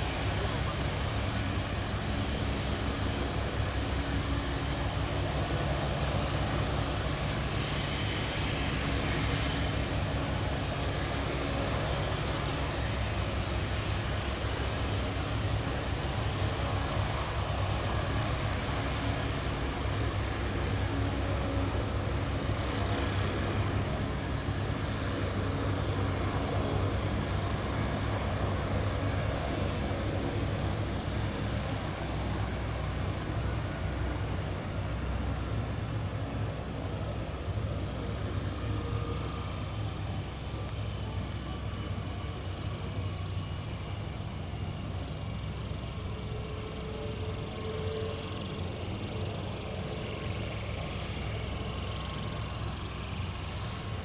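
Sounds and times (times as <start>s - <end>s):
helicopter rotor beat: 0.0s - 54.0s
helicopter turbine engine: 0.0s - 54.0s.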